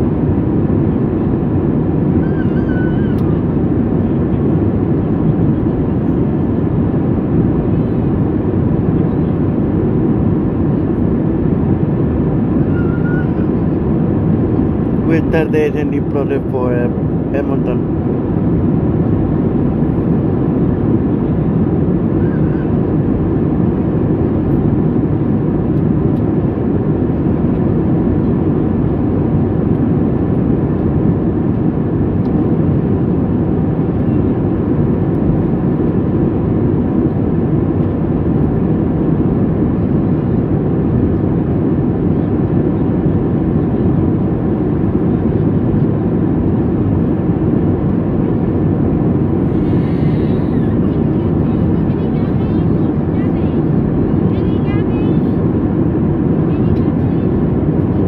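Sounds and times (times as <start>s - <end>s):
airplane cabin engine rush: 0.0s - 58.0s.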